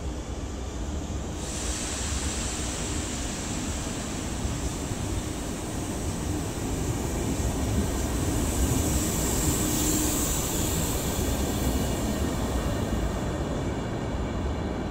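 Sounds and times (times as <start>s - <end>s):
high hiss: 0.3s - 13.7s.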